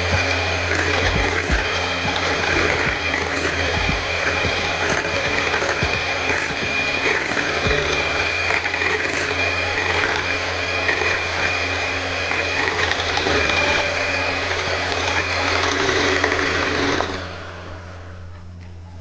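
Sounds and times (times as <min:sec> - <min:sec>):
electric hand mixer whisking: 0:00.0 - 0:18.2.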